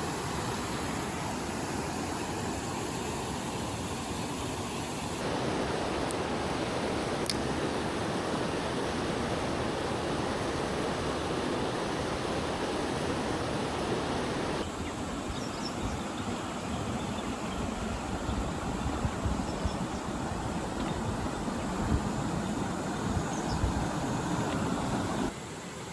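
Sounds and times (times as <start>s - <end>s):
mountain stream rushing: 0.0s - 25.9s.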